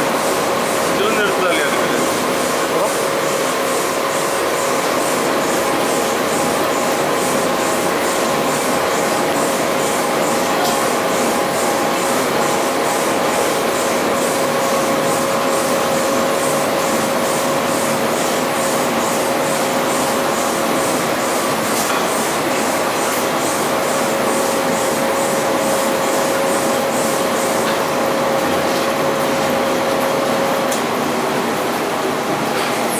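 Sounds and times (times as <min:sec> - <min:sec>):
washing machine hum with pulsing: 0:00.0 - 0:32.9
water churning in drum: 0:00.0 - 0:32.9.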